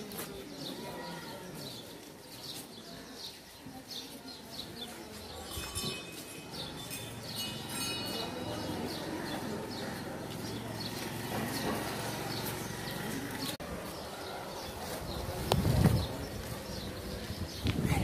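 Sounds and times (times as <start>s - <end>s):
small birds chirping: 0.0s - 5.8s, 6.5s - 18.0s
low steady street hum: 0.0s - 17.9s.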